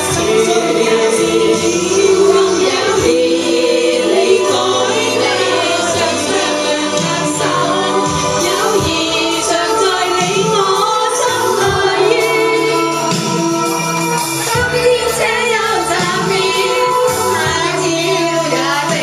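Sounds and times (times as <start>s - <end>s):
women singing together: 0.0s - 19.0s.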